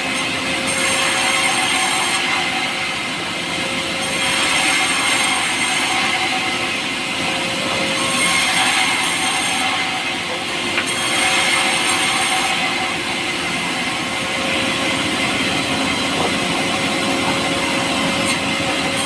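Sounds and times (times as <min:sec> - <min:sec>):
power saw cutting wood: 0:00.0 - 0:19.0.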